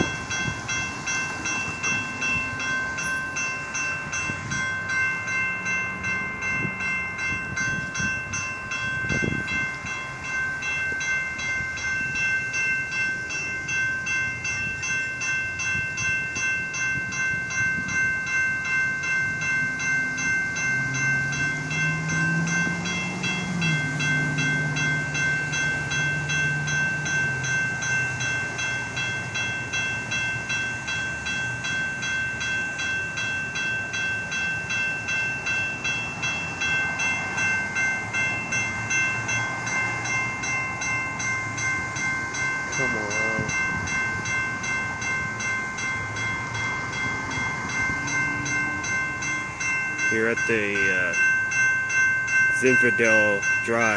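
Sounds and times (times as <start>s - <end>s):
railroad crossing bell ringing: 0.0s - 53.9s.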